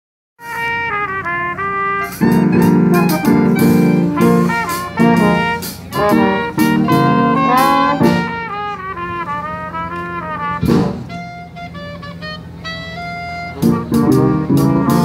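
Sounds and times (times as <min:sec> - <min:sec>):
jazz band horns playing: 0:00.4 - 0:15.0.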